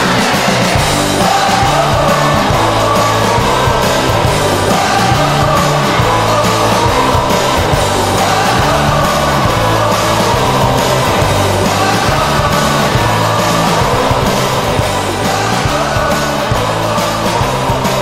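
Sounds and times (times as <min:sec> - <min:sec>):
rock music with guitar and singing: 0:00.0 - 0:18.0.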